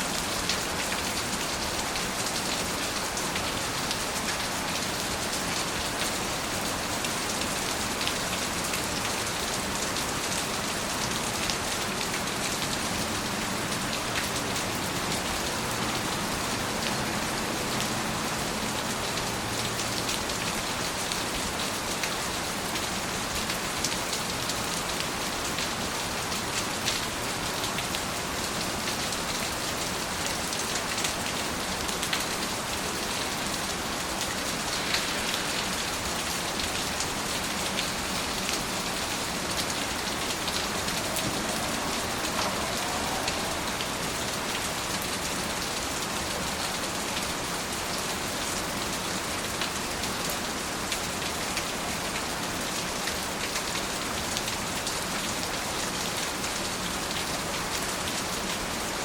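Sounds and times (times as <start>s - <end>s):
heavy rain falling: 0.0s - 59.0s
raindrops ticking on surfaces: 0.0s - 59.0s.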